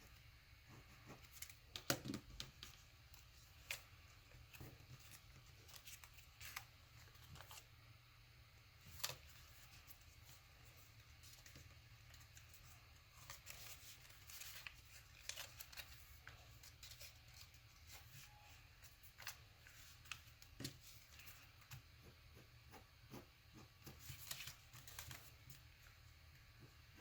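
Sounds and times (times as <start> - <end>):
low steady hum: 0.0 - 27.0
paper being folded and creased: 0.9 - 7.7, 8.8 - 22.0, 23.6 - 27.0.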